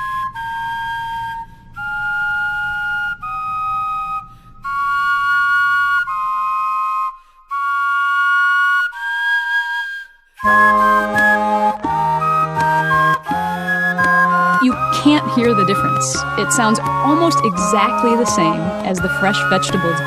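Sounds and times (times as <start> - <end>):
vegetable flutes playing melody: 0.0 - 20.0.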